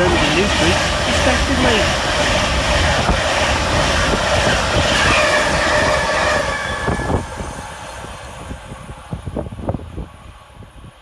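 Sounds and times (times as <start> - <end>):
electric train passing at speed: 0.0 - 11.0.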